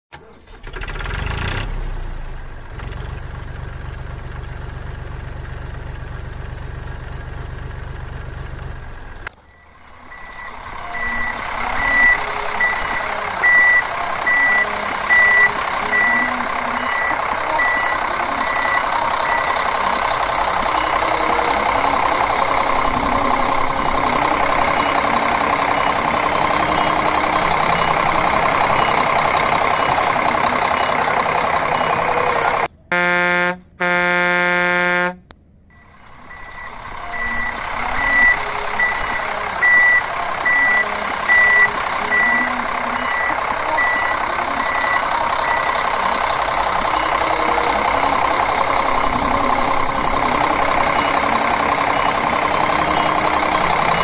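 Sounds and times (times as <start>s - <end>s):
diesel tractor engine running: 0.1s - 54.0s
heavy loader engine: 0.1s - 54.0s
reversing alarm beeping: 9.4s - 54.0s.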